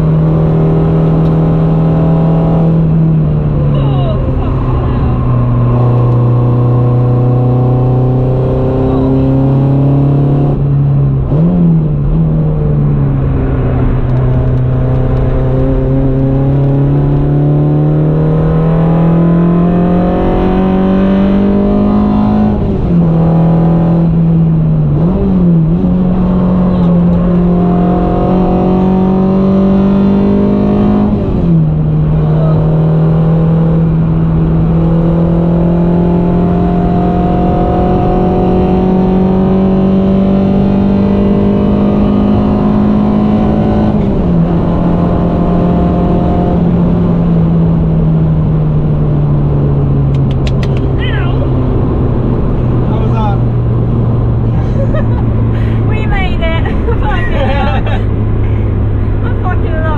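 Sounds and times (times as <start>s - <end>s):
car engine accelerating hard: 0.0s - 59.9s
road and wind noise: 0.0s - 59.9s.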